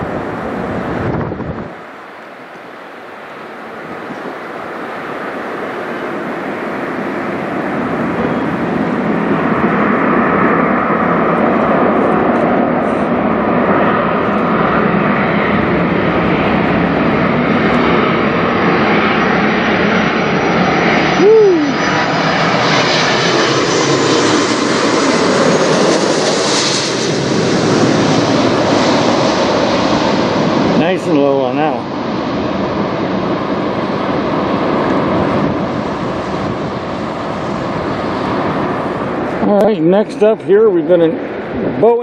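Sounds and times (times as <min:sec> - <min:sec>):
jet airliner flying over: 0:00.0 - 0:42.0.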